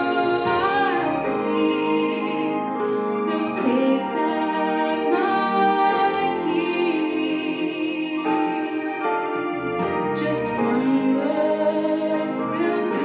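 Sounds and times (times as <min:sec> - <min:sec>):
instrumental accompaniment: 0:00.0 - 0:13.0
woman singing into microphone: 0:00.0 - 0:13.0.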